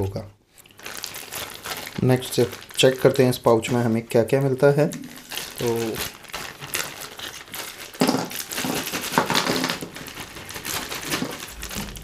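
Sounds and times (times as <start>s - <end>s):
plastic bag crinkling: 0.5s - 12.0s.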